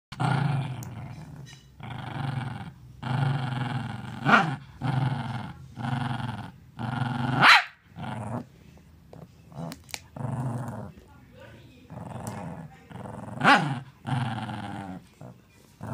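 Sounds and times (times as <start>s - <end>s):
small dog growling: 0.1s - 11.0s, 11.8s - 15.9s.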